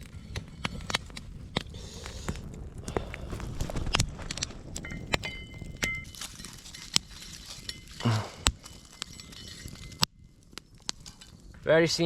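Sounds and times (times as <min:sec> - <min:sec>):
burning coals crackling: 0:00.0 - 0:12.0.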